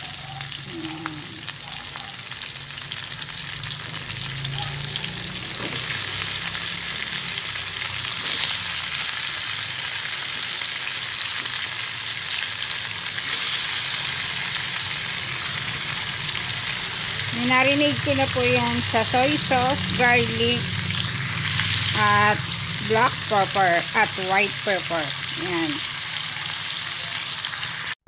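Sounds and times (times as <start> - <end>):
chicken sizzling in hot oil: 0.0 - 28.0.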